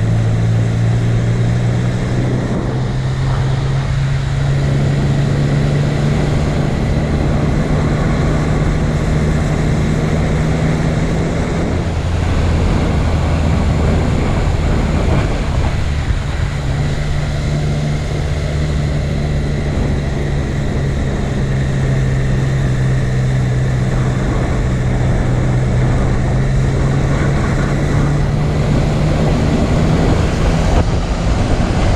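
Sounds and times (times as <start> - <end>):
mechanical drone: 0.0 - 31.9.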